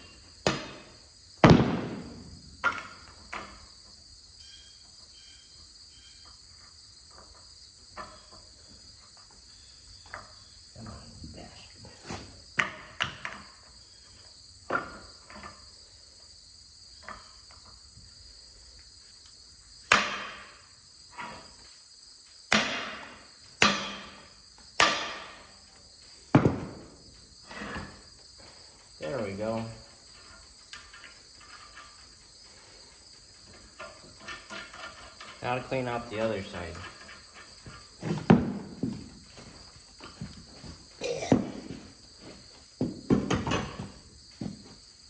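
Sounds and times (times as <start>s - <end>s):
high insect trill: 0.0s - 45.0s.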